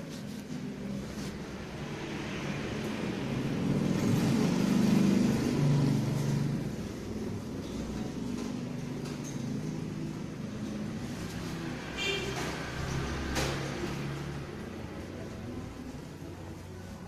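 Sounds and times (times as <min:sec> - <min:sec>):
motor vehicle passing by: 0:00.0 - 0:17.0.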